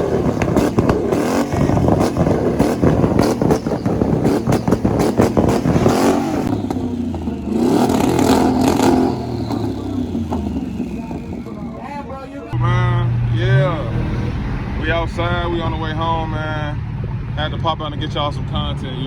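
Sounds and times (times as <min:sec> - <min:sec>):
engines revving hard: 0:00.0 - 0:19.0.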